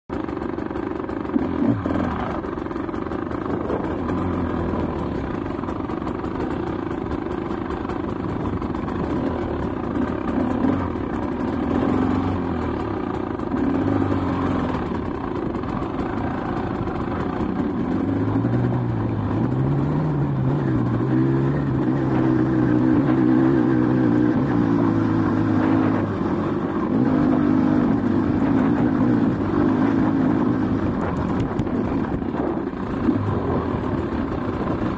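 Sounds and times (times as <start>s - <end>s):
off-road motorcycle engine: 0.0s - 34.9s.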